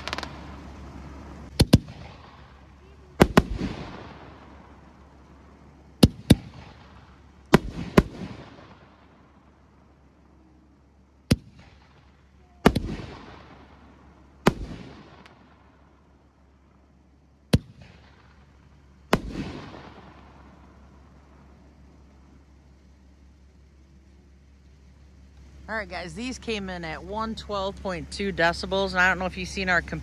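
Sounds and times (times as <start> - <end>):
firework shells bursting: 0.0 - 10.2, 10.9 - 25.6.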